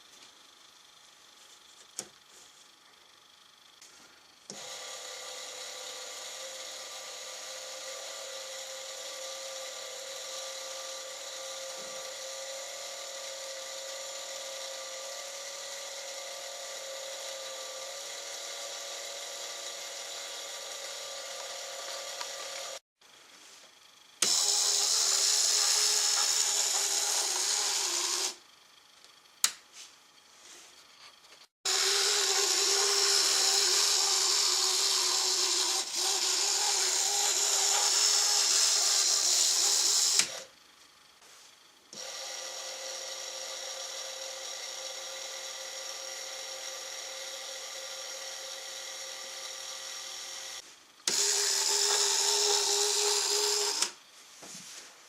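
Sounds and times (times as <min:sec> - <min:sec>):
small electric motor whining: 0:03.8 - 0:22.8, 0:24.2 - 0:28.4, 0:31.3 - 0:40.6, 0:41.9 - 0:54.0.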